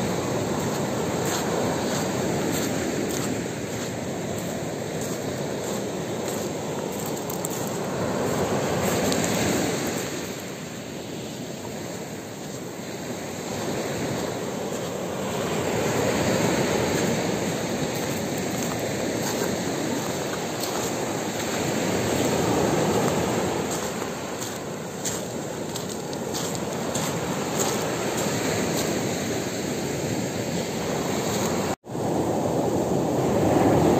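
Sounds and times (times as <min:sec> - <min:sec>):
waves washing over pebbles: 0:00.0 - 0:33.9.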